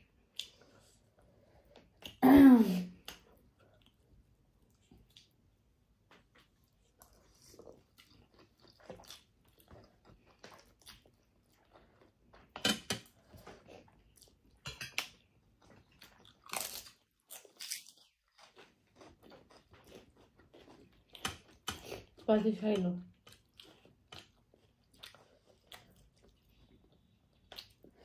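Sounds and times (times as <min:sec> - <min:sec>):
people chewing and biting food: 0:03.0 - 0:22.2, 0:23.1 - 0:28.0.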